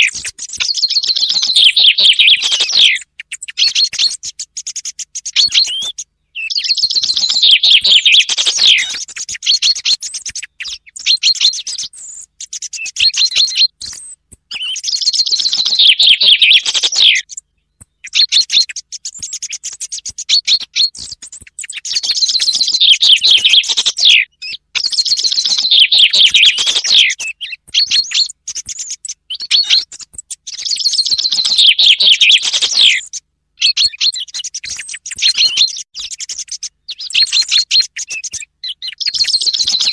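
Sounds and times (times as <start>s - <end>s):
chaffinch song: 0.0s - 39.9s
song thrush singing: 0.0s - 39.9s.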